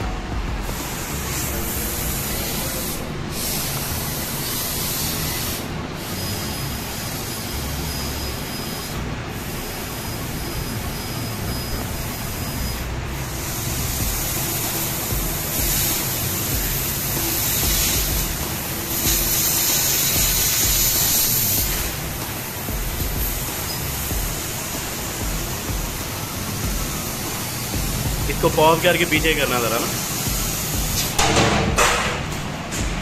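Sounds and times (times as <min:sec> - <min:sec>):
hiss of laser cutter gas: 0:00.6 - 0:32.4.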